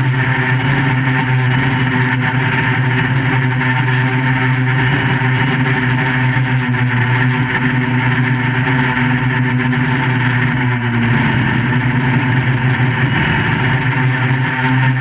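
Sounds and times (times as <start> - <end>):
quadcopter buzzing: 0.0 - 15.0.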